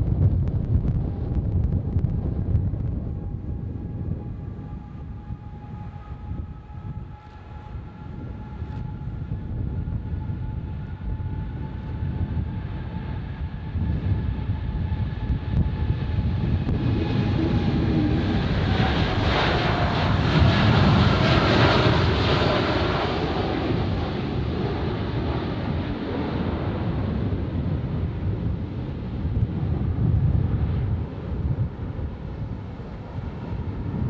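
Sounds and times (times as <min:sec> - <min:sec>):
airliner engine noise: 0:00.0 - 0:34.0
thin engine whine: 0:00.0 - 0:34.0.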